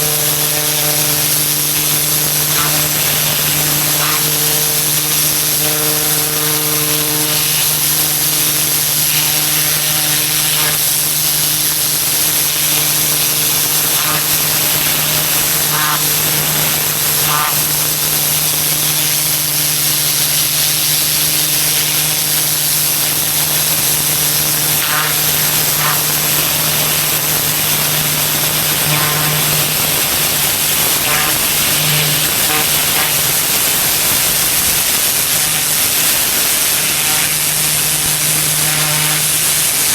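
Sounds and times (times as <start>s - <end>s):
pressure washer pump humming: 0.0s - 39.9s
water spray hissing on pavement: 0.0s - 39.9s.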